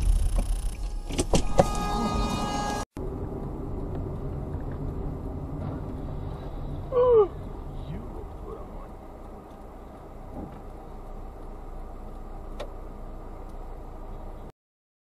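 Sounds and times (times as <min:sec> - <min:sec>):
car engine and road noise: 0:00.0 - 0:14.5.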